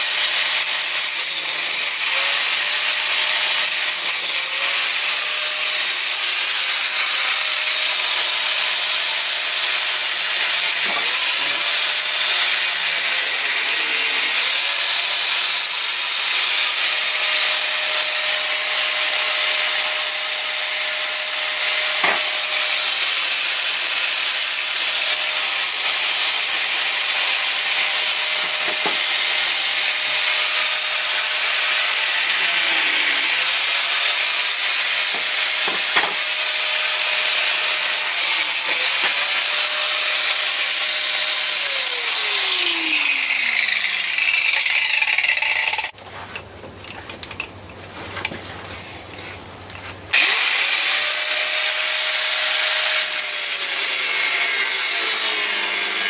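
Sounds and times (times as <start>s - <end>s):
angle grinder grinding steel: 0.0s - 46.0s, 50.1s - 56.0s.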